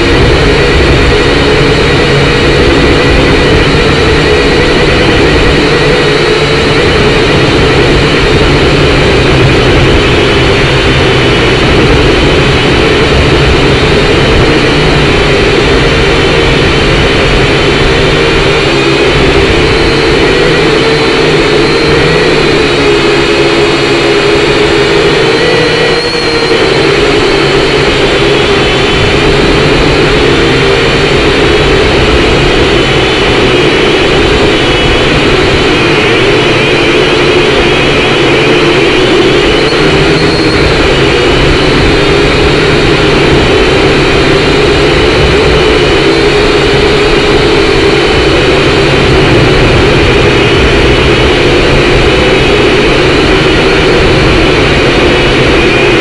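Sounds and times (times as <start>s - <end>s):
drone propellers buzzing: 0.0s - 56.0s
wind rumbling: 0.0s - 56.0s.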